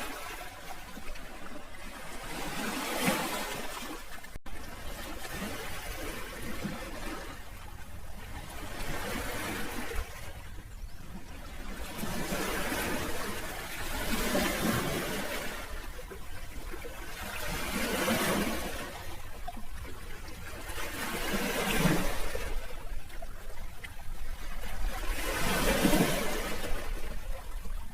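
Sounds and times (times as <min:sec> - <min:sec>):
sea waves washing in: 0:00.0 - 0:27.9.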